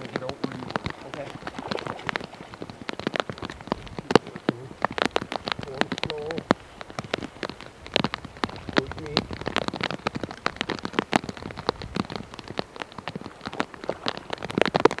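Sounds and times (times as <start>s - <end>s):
faint rain hiss: 0.0s - 15.0s
raindrops ticking: 0.0s - 15.0s.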